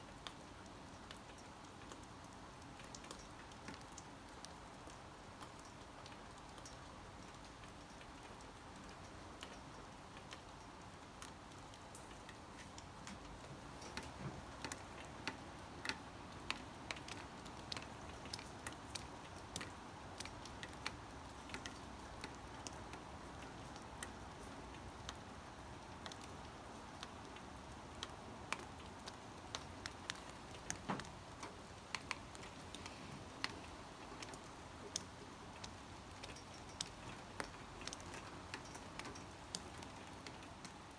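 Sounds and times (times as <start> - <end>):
faint rain: 0.0 - 40.9.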